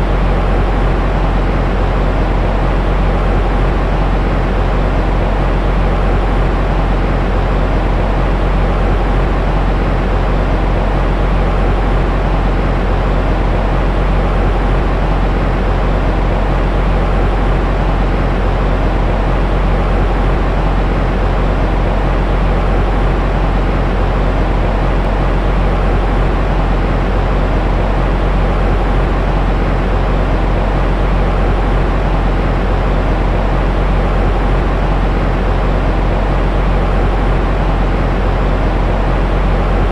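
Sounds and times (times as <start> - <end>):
deep rumbling white noise: 0.0 - 39.9.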